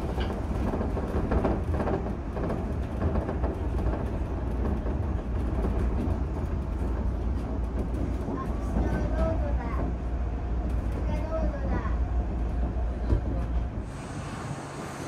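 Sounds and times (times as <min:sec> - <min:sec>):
monorail car running rumble: 0:00.0 - 0:15.0.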